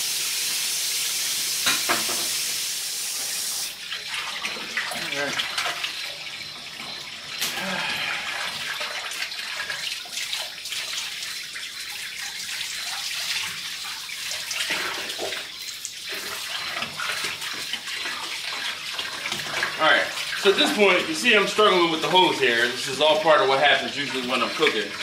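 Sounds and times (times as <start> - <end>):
hose water splashing on metal: 0.0 - 25.0.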